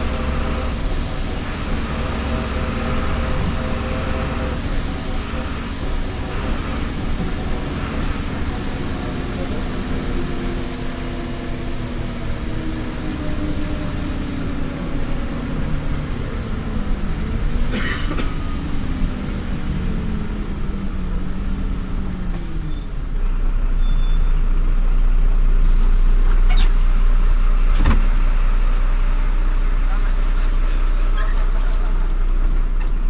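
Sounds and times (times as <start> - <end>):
bus engine hum: 0.0 - 33.0.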